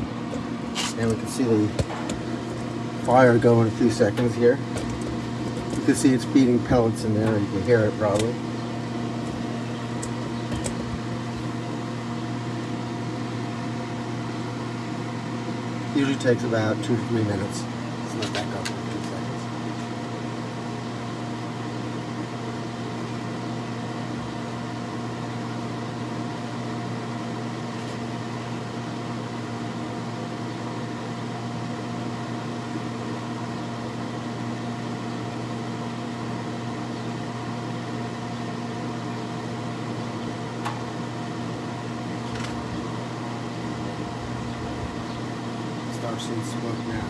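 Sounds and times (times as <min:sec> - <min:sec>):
motors humming: 0:00.0 - 0:25.4, 0:32.7 - 0:47.0.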